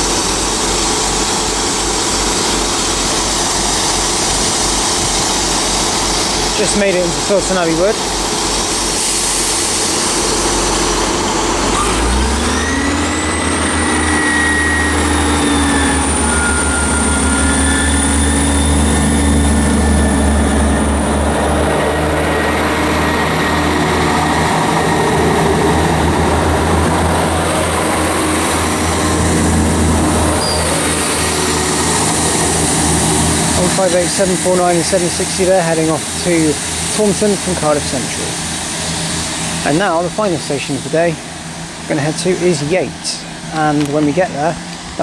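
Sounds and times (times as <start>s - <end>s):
diesel train engines revving: 0.0s - 45.0s.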